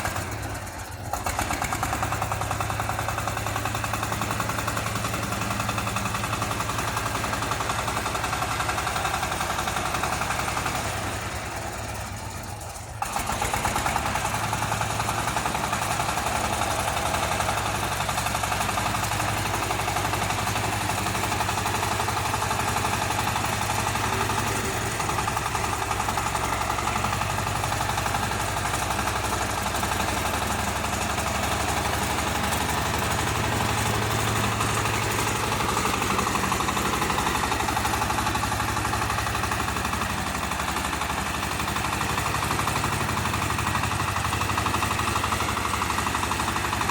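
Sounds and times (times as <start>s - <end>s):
tractor diesel engine chugging: 0.0s - 46.9s.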